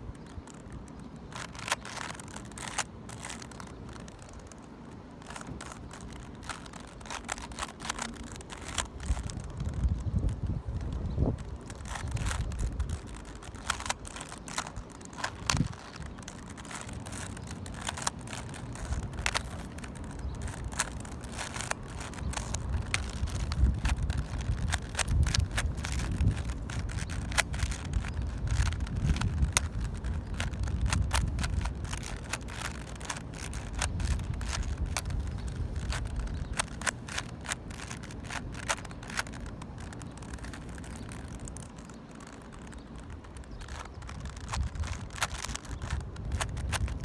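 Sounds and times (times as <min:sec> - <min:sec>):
puzzle cube layers clicking: 0:00.0 - 0:47.0.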